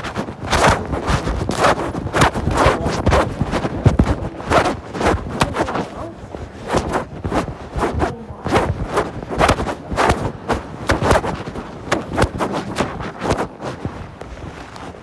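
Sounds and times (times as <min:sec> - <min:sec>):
rustling and knocking on phone microphone: 0:00.0 - 0:15.0.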